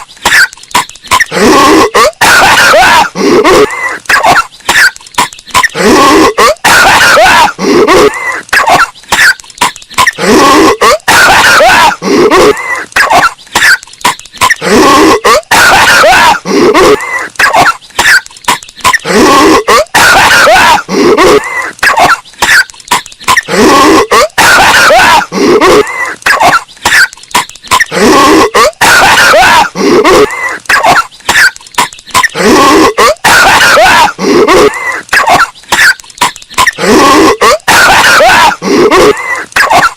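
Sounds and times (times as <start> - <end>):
distorted cartoon coughing: 0.0 - 39.9.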